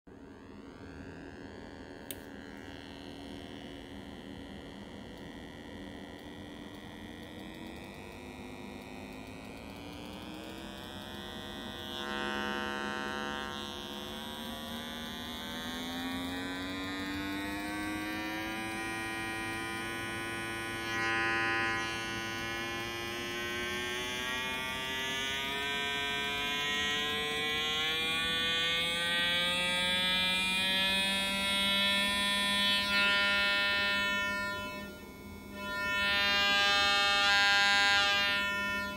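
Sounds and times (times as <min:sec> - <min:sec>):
buzzy sine test tone: 0:00.1 - 0:38.9.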